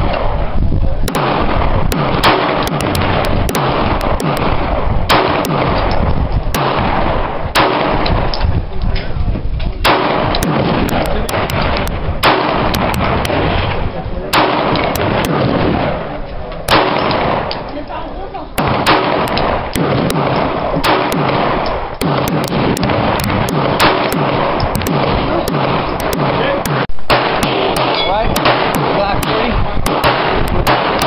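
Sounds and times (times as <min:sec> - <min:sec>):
gunshots: 0:01.1 - 0:08.6, 0:09.8 - 0:17.7, 0:18.6 - 0:31.0.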